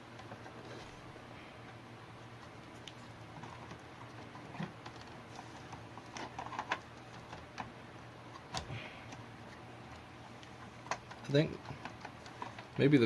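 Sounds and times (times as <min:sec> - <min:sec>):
faint low hum: 0:00.0 - 0:13.0
hands handling computer hardware: 0:01.7 - 0:13.0.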